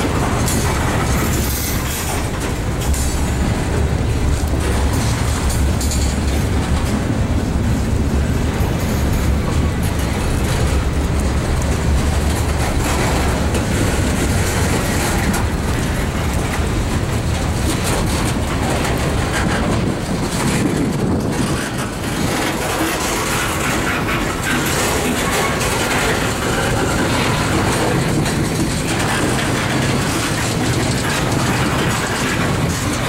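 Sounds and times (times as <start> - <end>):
clickety-clack over rail joints: 0.0 - 33.0
steel wheels rumbling on rail: 0.0 - 33.0.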